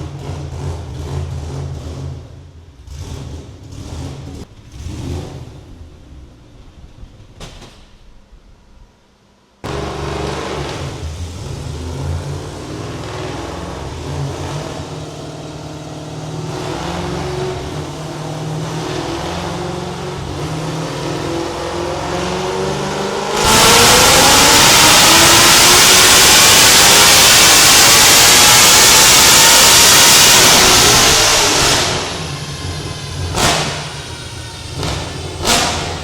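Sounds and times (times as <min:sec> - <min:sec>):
car engine revving on a dyno: 0:00.0 - 0:06.3, 0:09.6 - 0:36.0.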